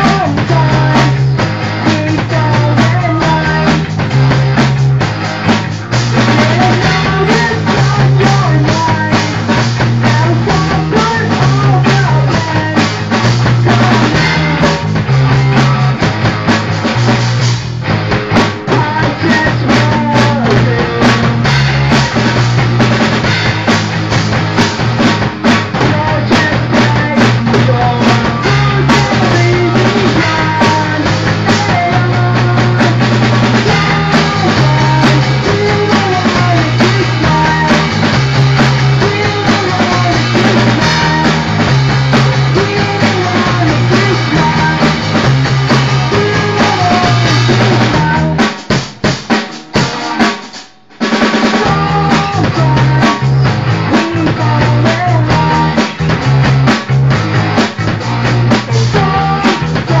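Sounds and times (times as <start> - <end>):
repeating bass-note pattern: 0.0 - 48.4
drum hits: 0.0 - 60.0
punk rock band playing: 0.0 - 60.0.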